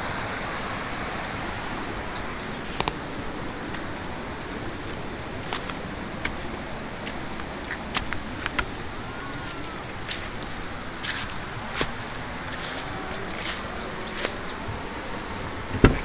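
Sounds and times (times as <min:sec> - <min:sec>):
flowing water hiss: 0:00.0 - 0:16.0
high insect buzz: 0:00.0 - 0:16.0.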